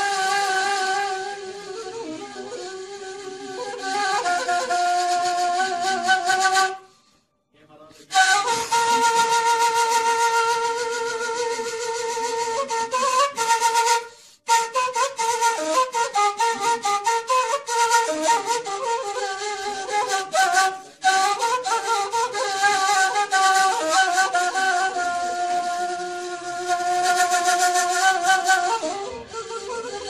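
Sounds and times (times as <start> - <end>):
flute-like wind instrument melody: 0.0 - 7.2, 8.0 - 30.0.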